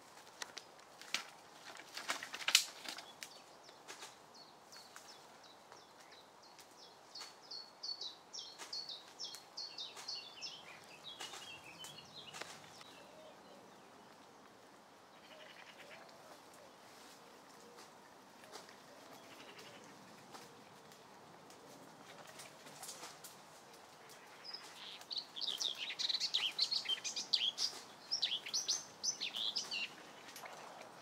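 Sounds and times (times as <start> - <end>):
songbird singing: 1.4 - 31.0.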